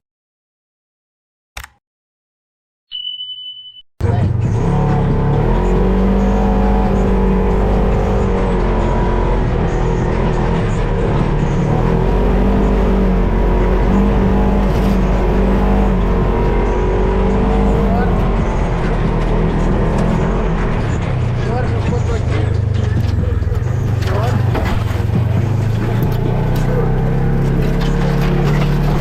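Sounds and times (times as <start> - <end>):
off-road vehicle engine running: 4.0 - 29.0.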